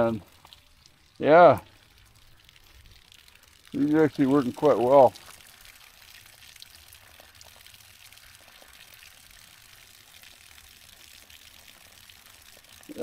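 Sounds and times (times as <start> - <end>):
water trickling onto soil: 0.0 - 13.0.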